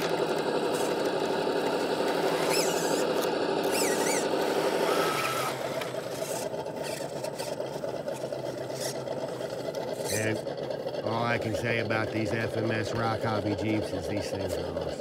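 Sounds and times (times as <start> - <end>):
rc car electric motor whining: 0.0 - 15.0.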